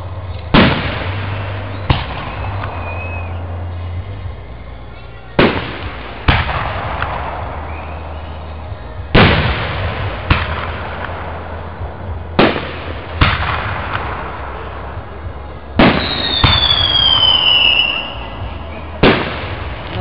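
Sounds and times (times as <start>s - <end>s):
fireworks booming with echo: 0.0s - 20.0s.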